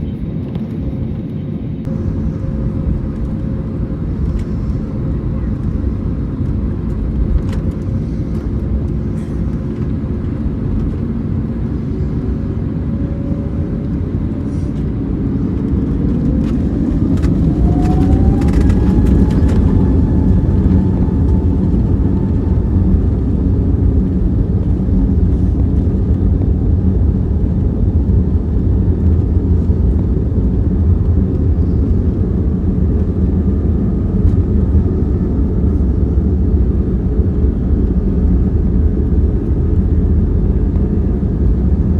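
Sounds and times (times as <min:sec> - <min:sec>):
aircraft cabin engine rumble: 0:00.0 - 0:41.9
jet engine whine rising: 0:00.0 - 0:41.9.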